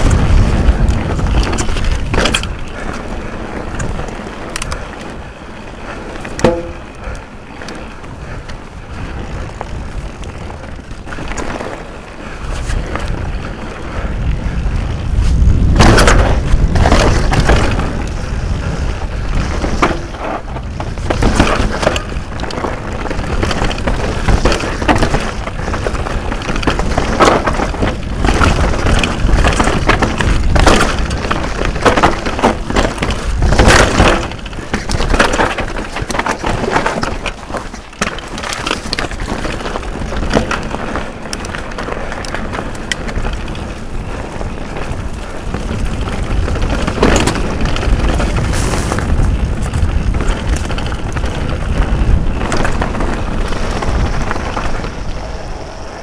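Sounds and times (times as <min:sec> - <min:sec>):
tyres crunching over stones: 0:00.0 - 0:13.9, 0:15.0 - 0:55.4
bike knocking and clattering: 0:00.0 - 0:56.0
wind rushing over microphone: 0:00.0 - 0:56.0.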